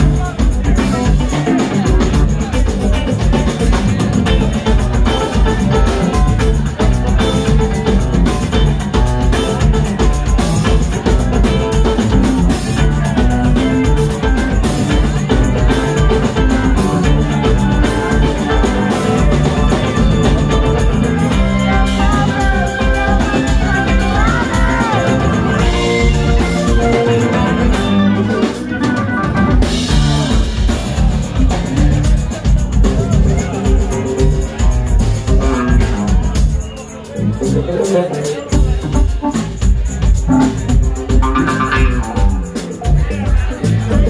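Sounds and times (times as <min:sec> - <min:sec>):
drum kit beat: 0:00.0 - 0:44.0
electric bass: 0:00.0 - 0:44.0
electric guitar: 0:00.0 - 0:44.0
keyboard: 0:00.0 - 0:44.0.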